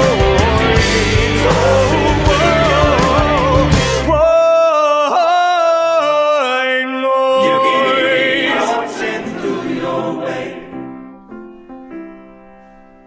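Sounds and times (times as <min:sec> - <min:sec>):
a cappella vocal harmonies: 0:00.0 - 0:10.8.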